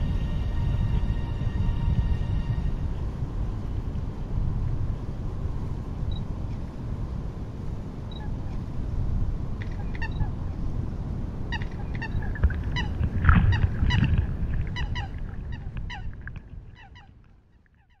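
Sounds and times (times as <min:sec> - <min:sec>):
steady low rumble: 0:00.0 - 0:17.5.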